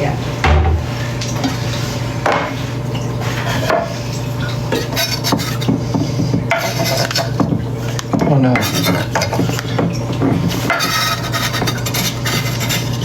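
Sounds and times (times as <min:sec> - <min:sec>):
utensils and dishes clinking: 0:02.4 - 0:13.0.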